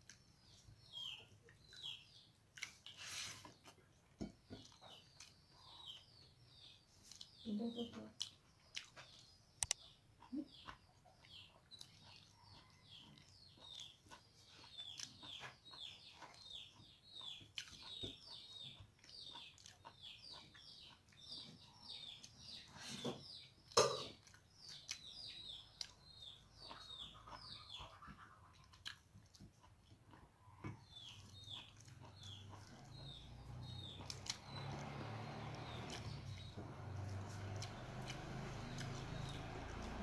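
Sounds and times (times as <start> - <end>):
soft clicks of eating: 0.0 - 6.0, 6.6 - 34.9
small birds chirping: 0.0 - 40.0.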